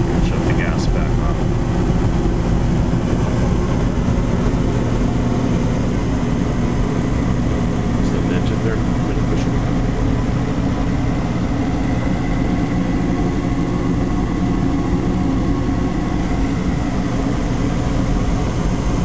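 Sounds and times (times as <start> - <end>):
faint high whine: 0.0 - 19.0
gas furnace humming: 0.0 - 19.0.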